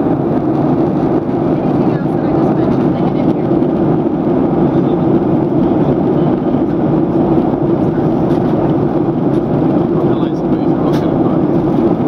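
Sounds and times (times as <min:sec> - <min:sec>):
airflow rushing over fuselage: 0:00.0 - 0:12.0
jet engines humming: 0:00.0 - 0:12.0.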